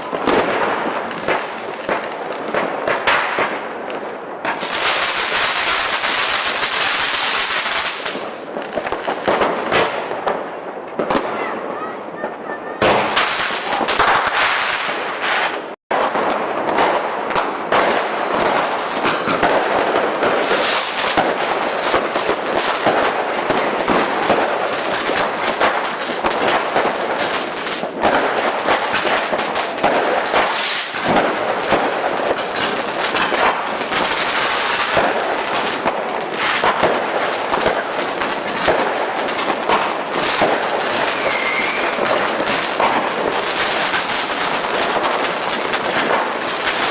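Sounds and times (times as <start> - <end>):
fireworks and firecrackers crackling: 0.0 - 46.9.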